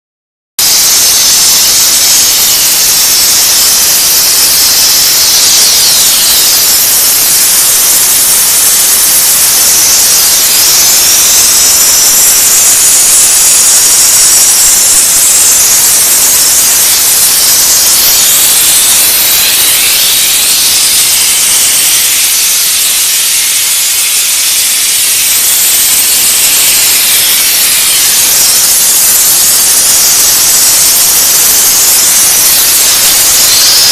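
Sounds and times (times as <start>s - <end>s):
high-pitched hiss of steam: 0.6s - 33.9s
steam car wash machine running: 0.6s - 33.9s.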